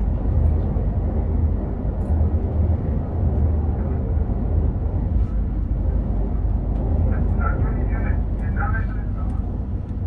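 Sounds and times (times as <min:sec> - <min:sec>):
train running low rumble: 0:00.0 - 0:10.0.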